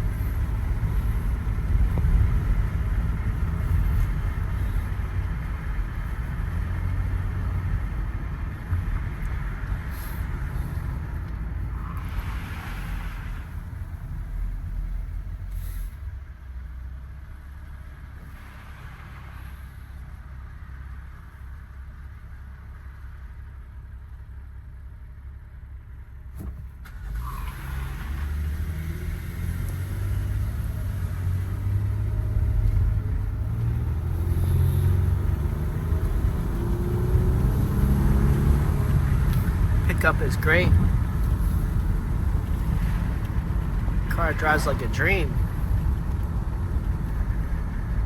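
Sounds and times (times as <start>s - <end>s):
road noise: 0.0s - 48.0s
van engine rumble: 0.0s - 48.0s.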